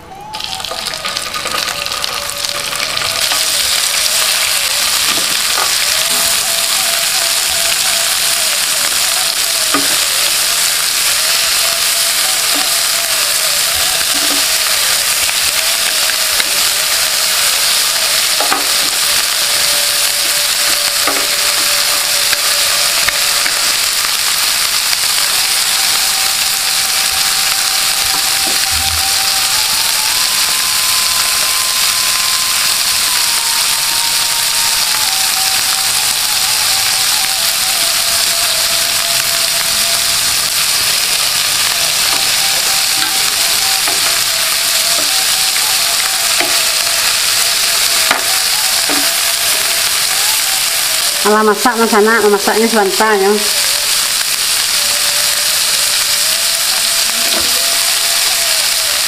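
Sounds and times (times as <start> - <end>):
prawns sizzling in hot oil: 0.2 - 59.0.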